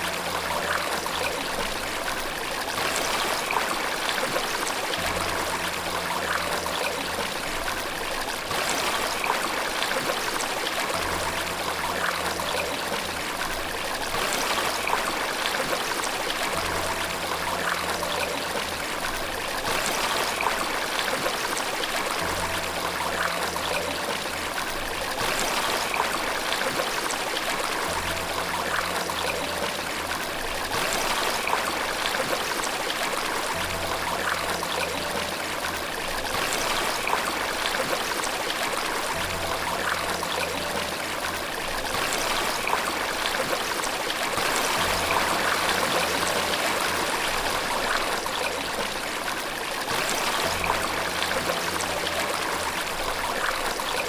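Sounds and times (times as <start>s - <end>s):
faint background music: 0.0s - 54.0s.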